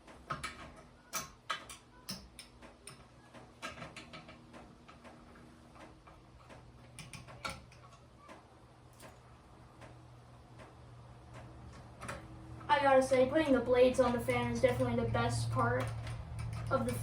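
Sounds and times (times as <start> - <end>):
fan blades clicking and tapping: 0.0 - 17.0.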